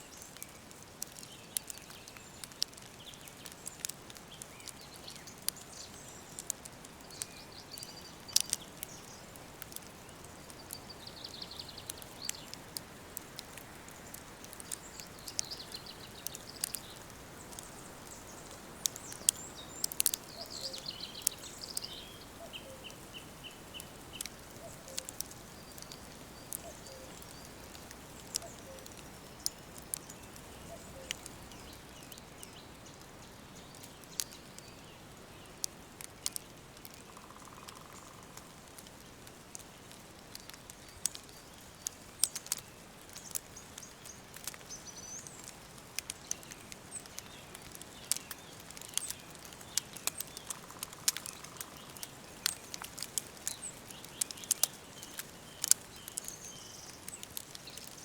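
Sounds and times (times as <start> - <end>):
soft steady hiss: 0.0 - 58.0
songbirds calling: 0.0 - 58.0
wood fire crackling and popping: 0.1 - 58.0.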